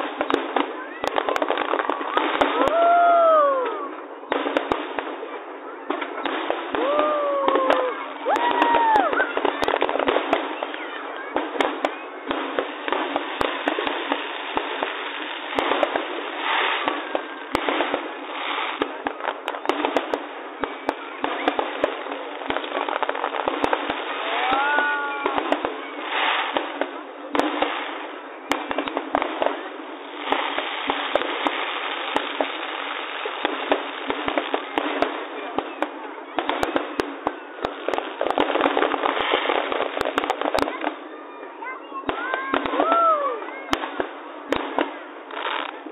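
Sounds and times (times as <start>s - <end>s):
fireworks bangs and pops: 0.0s - 45.9s
fireworks crackle: 0.0s - 45.9s.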